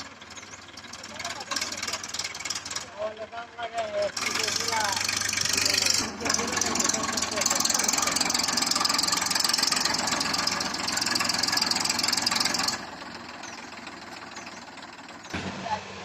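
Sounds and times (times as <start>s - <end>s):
diesel machinery engine running: 0.0s - 16.0s.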